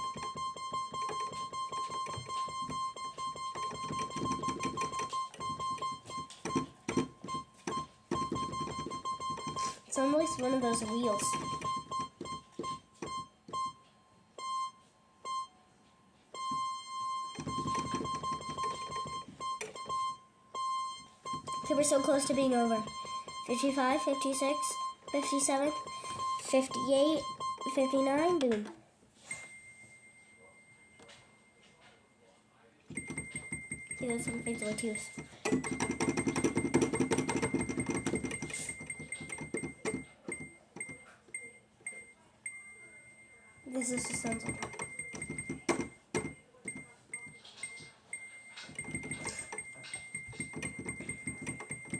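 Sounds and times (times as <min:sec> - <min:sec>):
electronic keyboard-like notes and clicks: 0:00.0 - 0:15.5, 0:16.4 - 0:29.5, 0:32.9 - 0:51.9.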